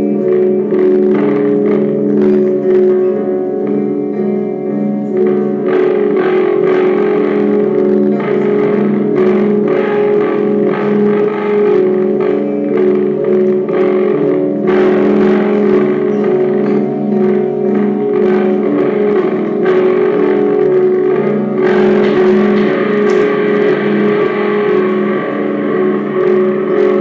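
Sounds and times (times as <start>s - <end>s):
psychedelic band music: 0.0s - 27.0s.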